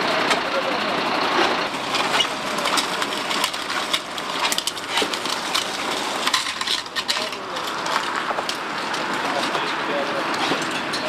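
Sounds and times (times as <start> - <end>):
hand tools clinking and scraping: 1.7 - 11.0.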